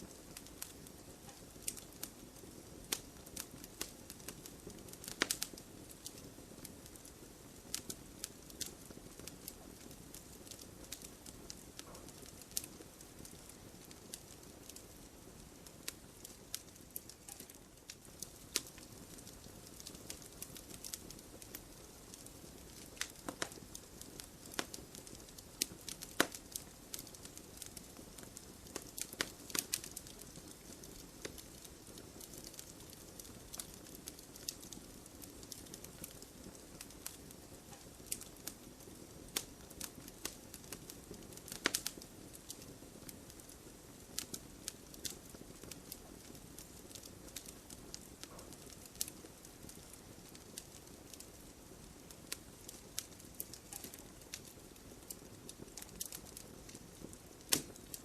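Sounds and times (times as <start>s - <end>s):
burning wood crackling and popping: 0.0s - 58.0s
campfire flames hissing: 0.0s - 58.0s.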